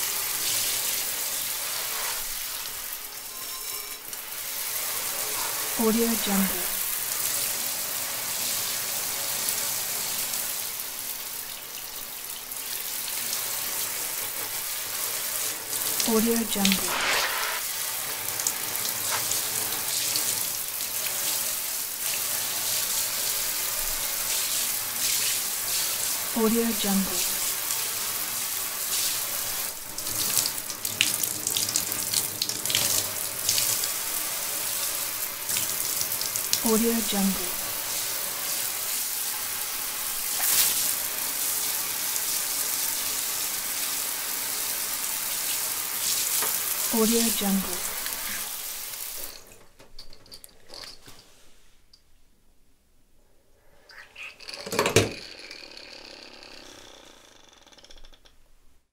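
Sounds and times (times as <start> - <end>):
shower water spraying: 0.0 - 49.4.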